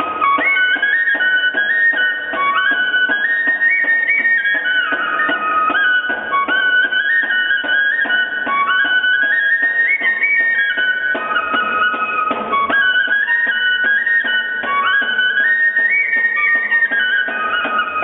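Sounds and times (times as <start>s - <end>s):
drum beats: 0.0s - 18.0s
flute melody: 0.0s - 18.0s.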